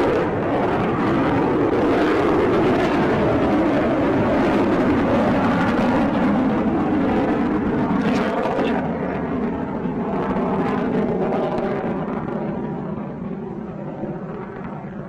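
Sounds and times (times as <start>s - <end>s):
rocket engines rumbling: 0.0s - 15.0s.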